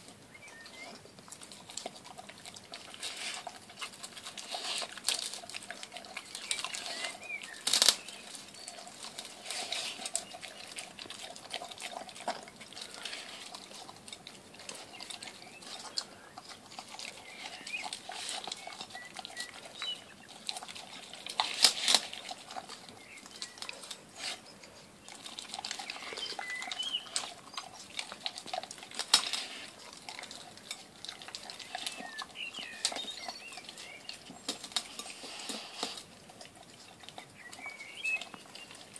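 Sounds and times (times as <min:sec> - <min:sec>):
dog chewing and licking: 0:00.0 - 0:38.9.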